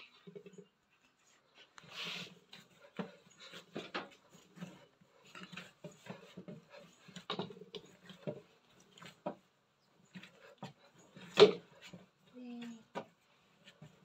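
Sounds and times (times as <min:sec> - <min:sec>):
dough squishing and patting: 0:00.0 - 0:14.0.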